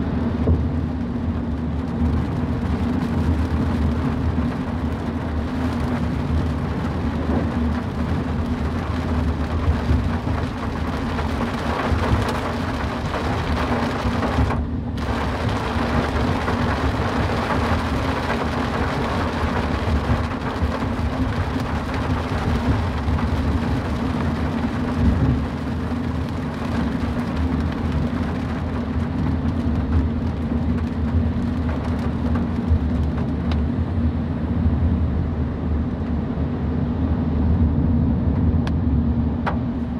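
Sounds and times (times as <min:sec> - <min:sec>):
rain hissing on car: 0:00.0 - 0:34.1
car tyres rumbling on wet road: 0:00.0 - 0:39.9.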